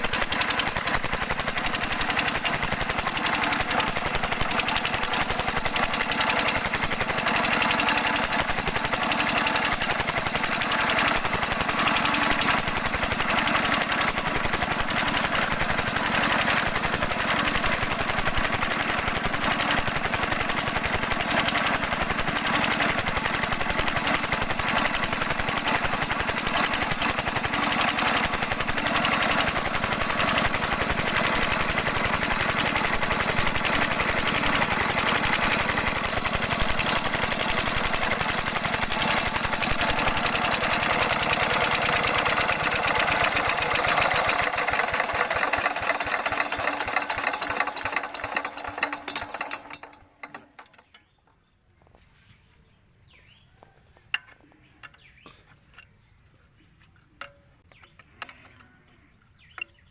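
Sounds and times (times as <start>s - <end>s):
diesel engine knocking: 0.0s - 50.4s.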